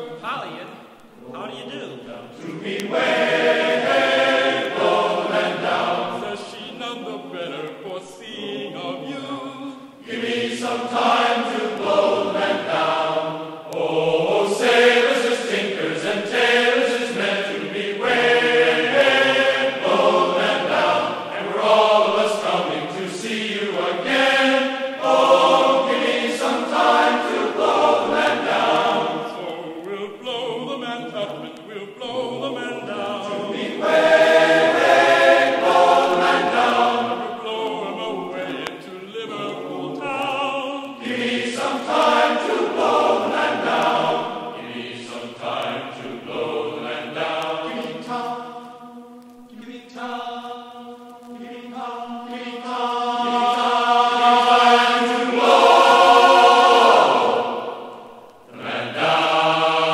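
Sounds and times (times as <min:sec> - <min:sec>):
choir singing a sea shanty: 0:02.0 - 0:59.9.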